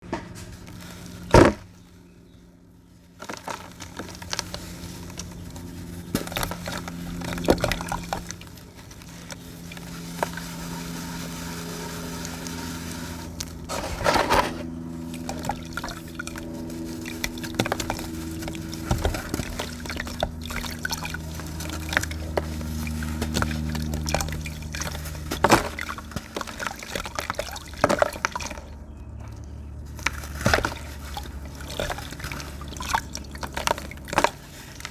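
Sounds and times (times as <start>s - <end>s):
water splashing and trickling: 3.2s - 34.9s.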